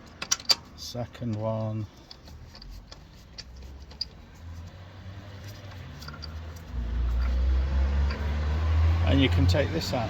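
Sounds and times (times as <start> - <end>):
wheel bolt clicking and scraping: 0.0 - 8.6.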